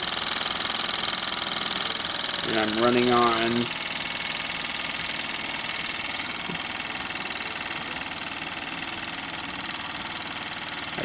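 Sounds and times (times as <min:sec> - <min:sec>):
steam engine chuffing: 0:00.0 - 0:11.0.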